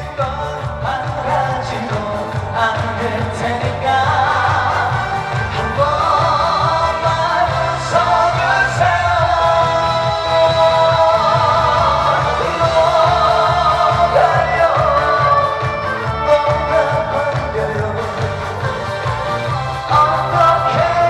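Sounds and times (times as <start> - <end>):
amplified accompaniment with bass: 0.0 - 21.0
person singing: 0.0 - 21.0.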